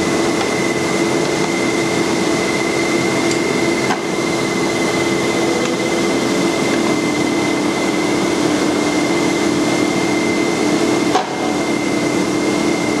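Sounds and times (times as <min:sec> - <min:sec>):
tapping machine whirring: 0:00.0 - 0:11.9.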